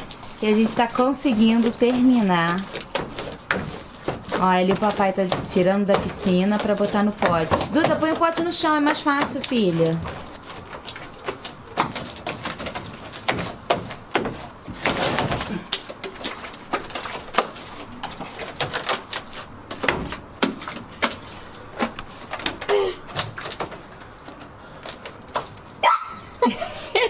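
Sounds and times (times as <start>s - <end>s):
slime squelching: 0.0s - 26.4s.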